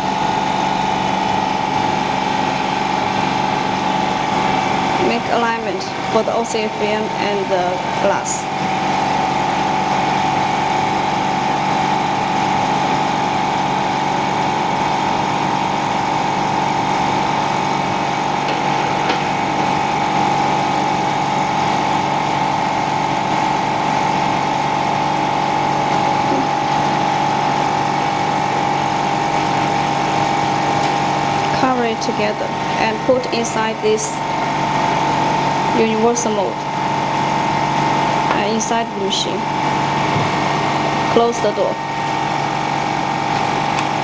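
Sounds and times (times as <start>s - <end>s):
electric pump motor humming: 0.0s - 44.0s.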